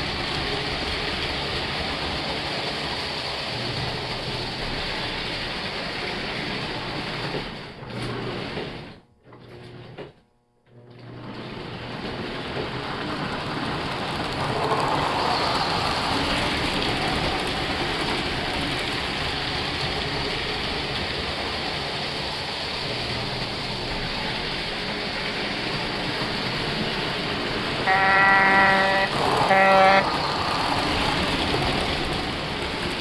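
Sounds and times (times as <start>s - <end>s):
model train whirring on track: 0.0s - 9.0s, 11.3s - 33.0s.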